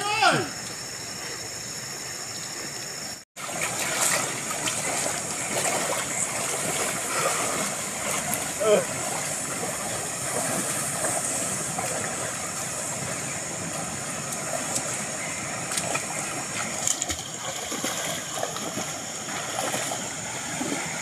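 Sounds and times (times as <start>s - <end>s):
stream running: 0.0s - 21.0s
splashes from wading: 3.4s - 21.0s.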